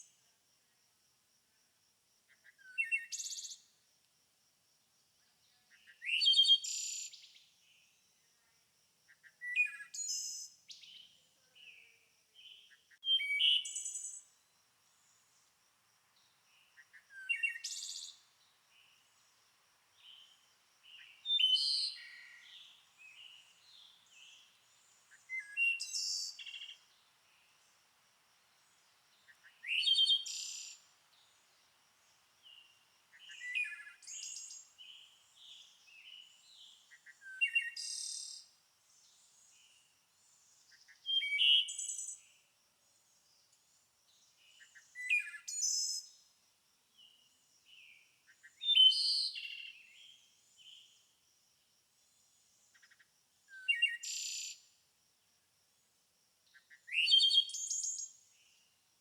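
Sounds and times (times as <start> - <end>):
songbird singing: 2.3 - 3.8, 5.2 - 46.3, 46.9 - 51.2, 52.1 - 54.8, 56.5 - 58.8.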